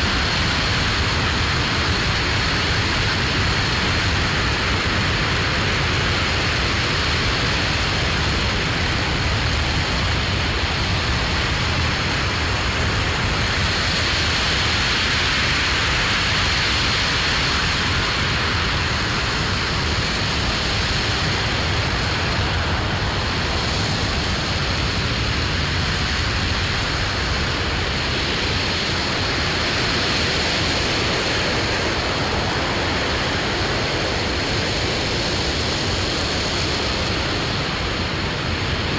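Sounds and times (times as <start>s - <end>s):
distant rocket engine rumble: 0.0s - 38.9s.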